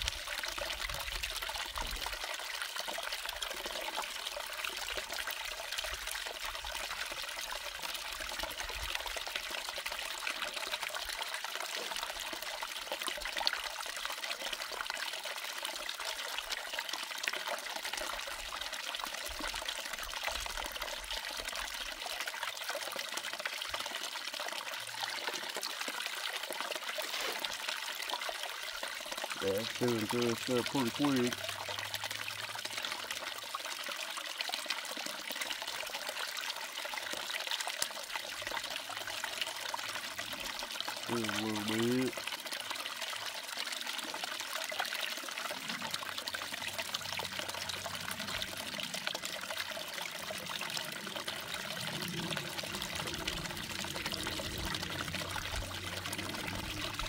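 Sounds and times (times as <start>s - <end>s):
water pouring and running: 0.0s - 57.0s.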